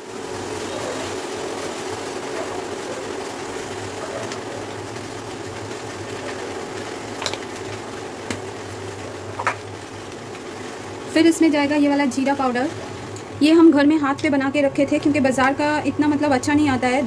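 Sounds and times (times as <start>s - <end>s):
induction cooktop fan hum: 0.0s - 17.0s.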